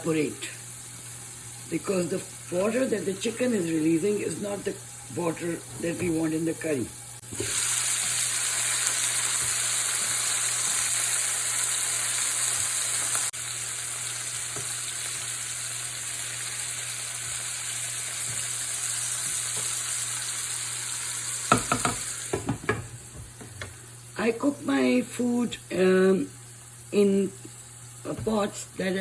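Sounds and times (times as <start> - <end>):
chicken sizzling in hot oil: 0.0 - 23.2.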